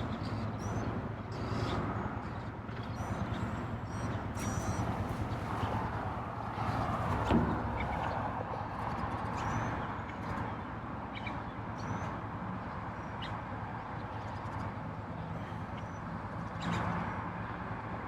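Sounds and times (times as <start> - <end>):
distant traffic hum: 0.0 - 18.0.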